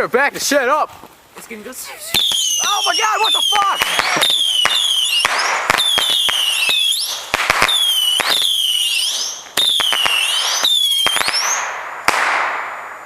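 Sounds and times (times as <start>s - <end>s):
firework cracks and pops: 0.4s - 13.0s
whistling fireworks: 2.0s - 13.0s.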